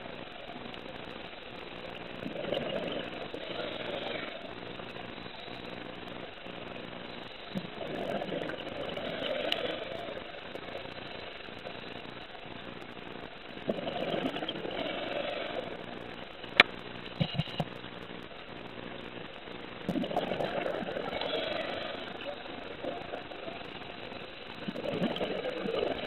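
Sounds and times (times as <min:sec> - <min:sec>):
exhaled bubbles underwater: 0:00.0 - 0:26.0
steady low hum: 0:00.0 - 0:26.0.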